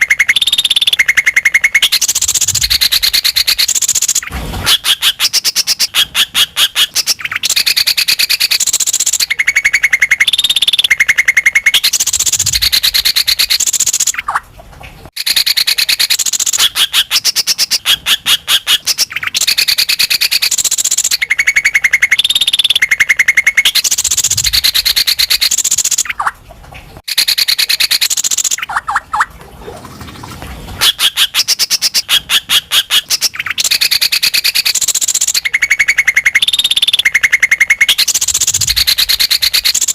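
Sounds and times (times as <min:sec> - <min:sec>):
bird singing in fast trills: 0:00.0 - 0:14.4, 0:15.2 - 0:26.3, 0:27.0 - 0:29.3, 0:30.8 - 0:39.9.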